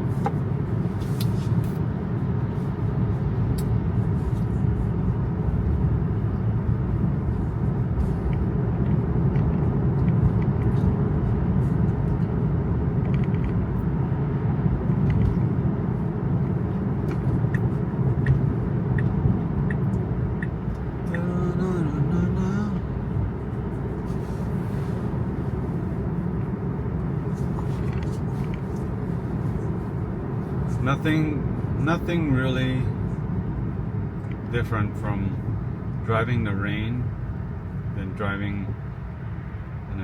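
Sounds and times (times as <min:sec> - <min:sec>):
tyre and road noise on wet road: 0:00.0 - 0:34.5.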